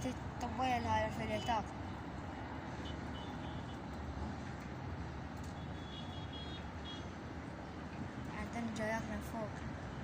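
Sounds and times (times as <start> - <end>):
distant road traffic rumble: 0.0 - 10.0.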